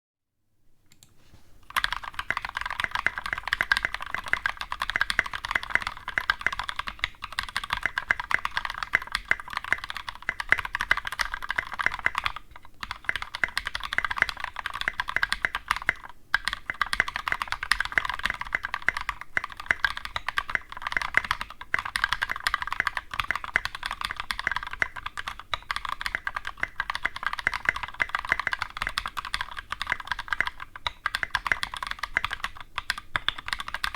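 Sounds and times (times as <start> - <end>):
fast typing on mechanical keyboard: 1.7 - 33.9.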